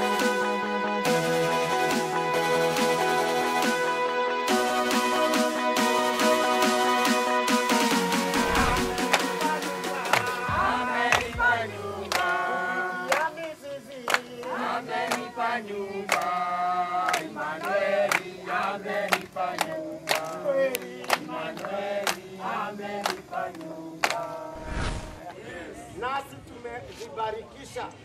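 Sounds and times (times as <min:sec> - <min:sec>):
choir singing gospel song: 0:00.0 - 0:25.2.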